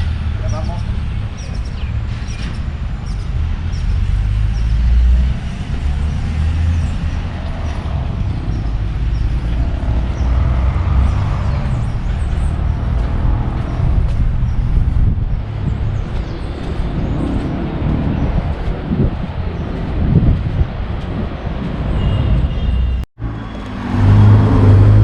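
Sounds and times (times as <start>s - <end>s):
birds chirping: 0.0s - 23.8s
road traffic rumble: 0.0s - 25.0s
vehicle passing: 0.0s - 25.0s.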